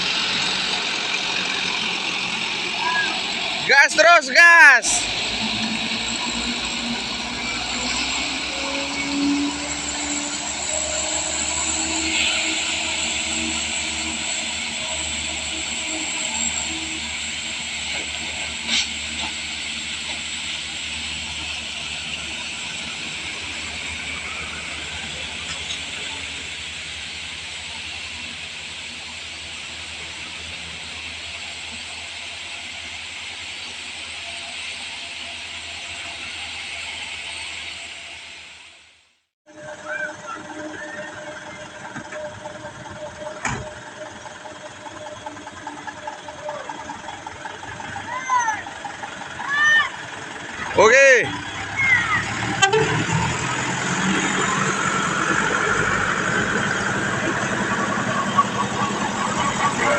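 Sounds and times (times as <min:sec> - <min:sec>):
diesel truck engine drone: 0:00.0 - 0:59.9.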